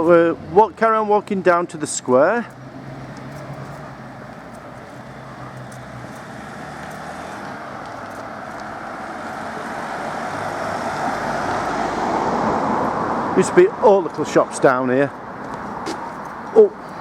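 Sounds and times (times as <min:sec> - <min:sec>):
road traffic rush: 0:00.0 - 0:17.0
vehicle approaching: 0:00.0 - 0:17.0.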